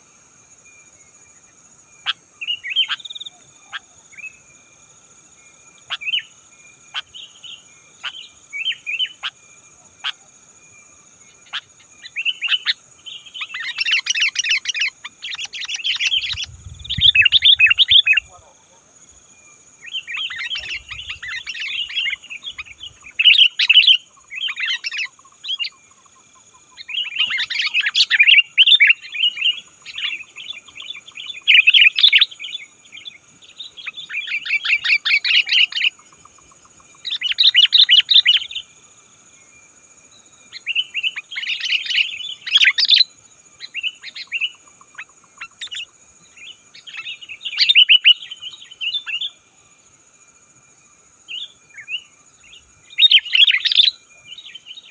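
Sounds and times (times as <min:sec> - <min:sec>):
bird chattering song: 0:02.0 - 0:04.4, 0:05.8 - 0:09.4, 0:11.2 - 0:18.5, 0:19.8 - 0:38.7, 0:40.5 - 0:49.4, 0:51.3 - 0:54.9.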